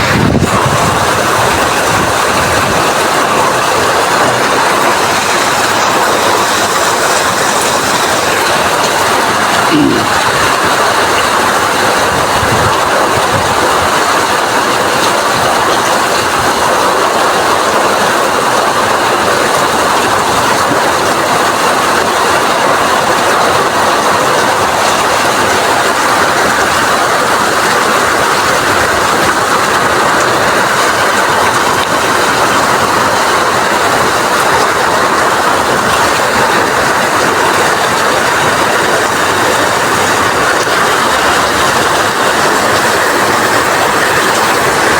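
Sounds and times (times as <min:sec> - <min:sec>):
rain falling in strong wind: 0:00.0 - 0:44.9.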